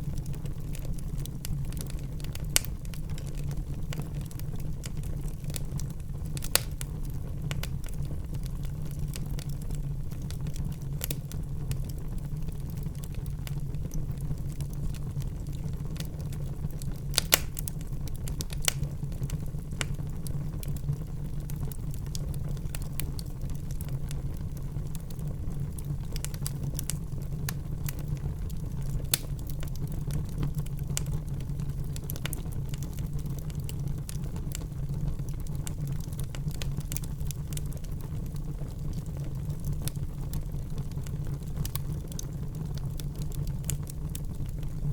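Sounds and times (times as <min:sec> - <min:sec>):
fire crackling and popping: 0:00.0 - 0:44.9
fire low rumble: 0:00.0 - 0:44.9.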